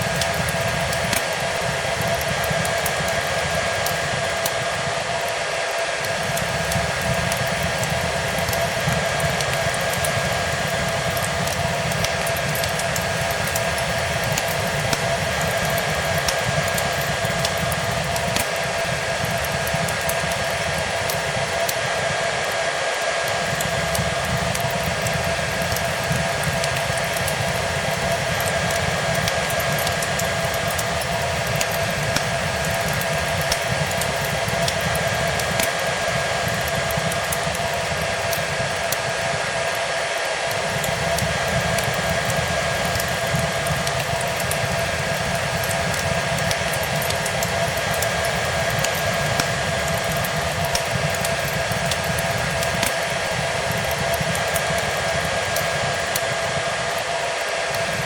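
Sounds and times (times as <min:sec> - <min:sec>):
fireplace fire crackling: 0:00.0 - 0:58.0
hair dryer running: 0:00.0 - 0:58.0.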